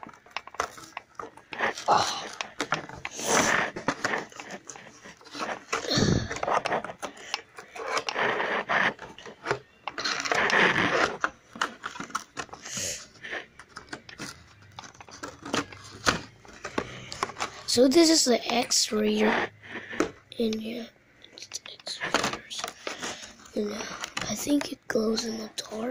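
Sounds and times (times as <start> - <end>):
packaging rustling: 0.0 - 18.2, 21.6 - 24.6
packaging clicks and scrapes: 0.0 - 20.8, 21.4 - 25.9.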